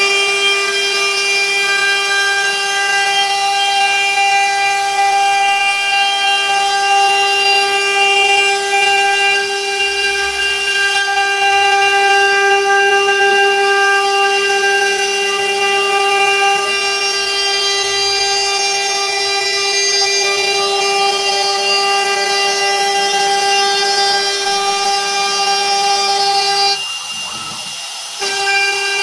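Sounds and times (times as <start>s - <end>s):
router spindle high-pitched whine: 0.0s - 29.0s.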